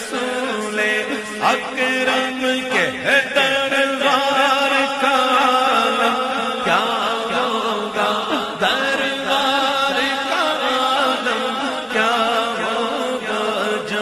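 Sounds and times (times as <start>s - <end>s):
held vocal drone: 0.0s - 14.0s.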